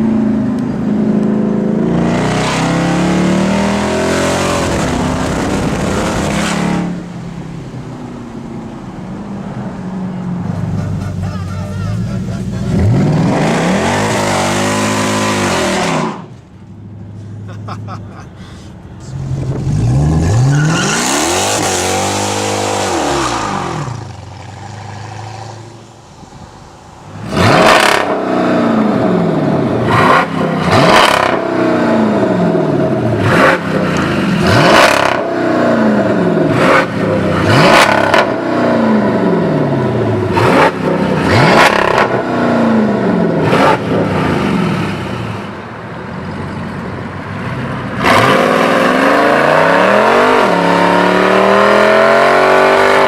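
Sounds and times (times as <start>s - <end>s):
car engine revving: 0.3s - 9.8s, 10.4s - 16.4s, 19.0s - 45.5s, 47.2s - 53.0s.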